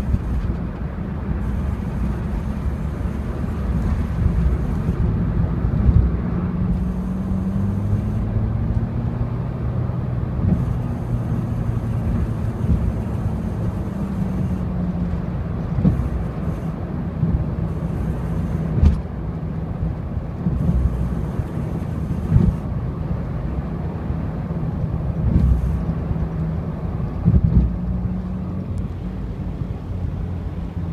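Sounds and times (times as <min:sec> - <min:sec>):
car engine hum: 0:00.0 - 0:30.9
road rumble: 0:00.0 - 0:30.9.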